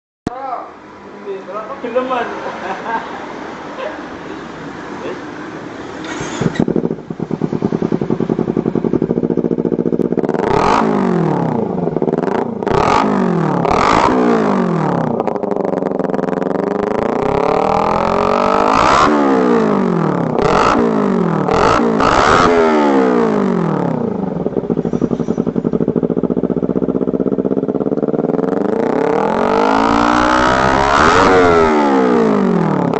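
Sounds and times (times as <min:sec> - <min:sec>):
motorcycle engine revving: 0:04.2 - 0:32.9
exhaust cracks: 0:05.8 - 0:32.9.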